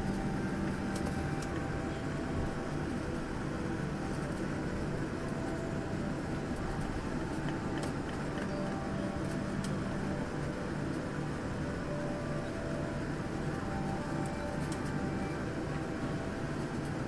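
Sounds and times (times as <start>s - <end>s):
jet engine hum in cabin: 0.0s - 17.0s.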